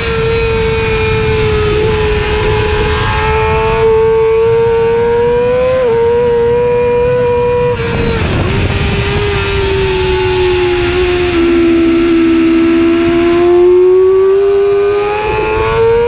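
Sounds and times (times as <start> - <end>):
motorcycle engine screaming: 0.0 - 16.0.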